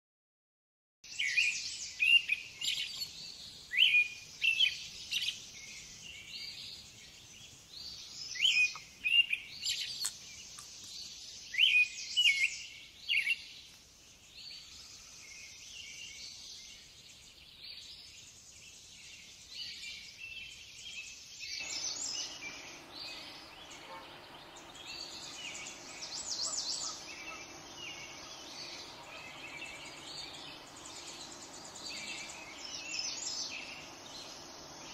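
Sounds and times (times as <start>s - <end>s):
small songbirds chirping: 1.0s - 34.9s
low outdoor background hiss: 1.1s - 34.9s.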